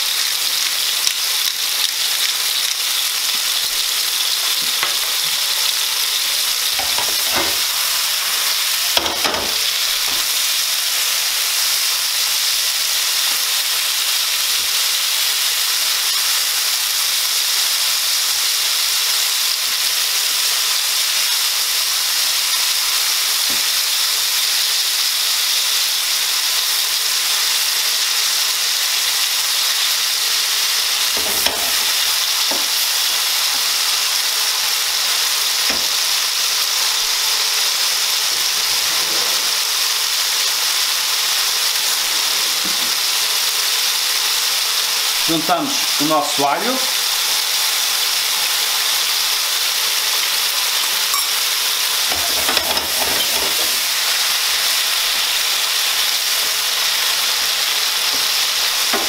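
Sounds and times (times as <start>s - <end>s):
mushrooms sizzling in a frying pan: 0.0s - 59.0s.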